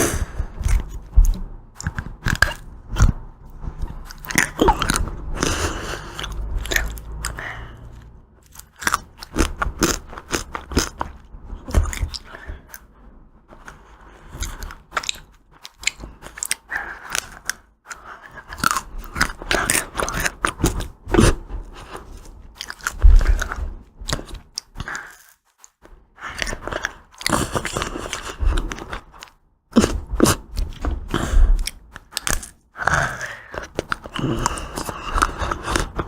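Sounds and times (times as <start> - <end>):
crunchy bites and chewing: 0.0 - 12.9, 13.6 - 36.0.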